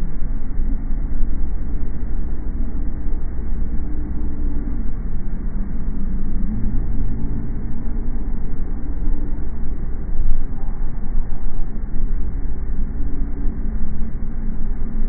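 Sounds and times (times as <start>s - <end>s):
car driving rumble: 0.0s - 15.0s
faint humming tones: 0.0s - 15.0s.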